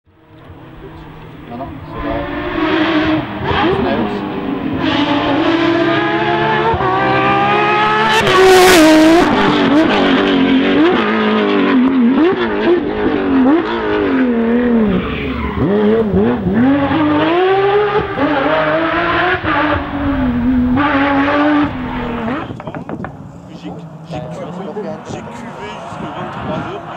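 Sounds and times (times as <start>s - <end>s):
rally car engine revving: 0.1s - 26.9s.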